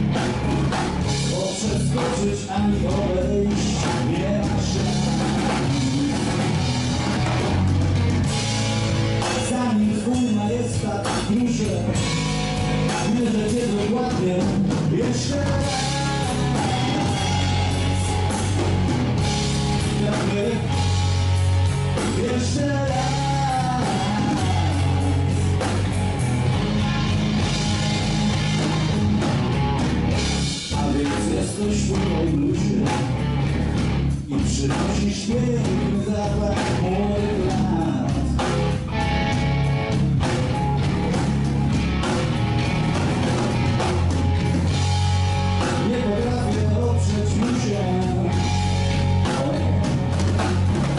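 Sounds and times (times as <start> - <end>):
drum kit: 0.0 - 50.9
electric bass: 0.0 - 50.9
electric guitar: 0.0 - 50.9.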